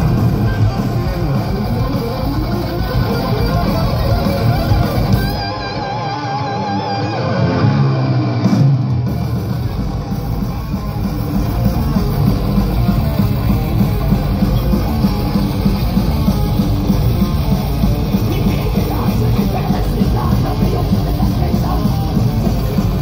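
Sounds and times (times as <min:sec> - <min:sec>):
electric guitar sliding notes: 0:00.0 - 0:23.0
metal band playing live: 0:00.0 - 0:23.0.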